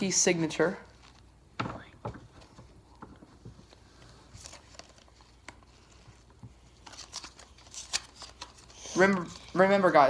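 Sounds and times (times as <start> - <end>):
trading cards rustling and clicking: 0.9 - 10.0.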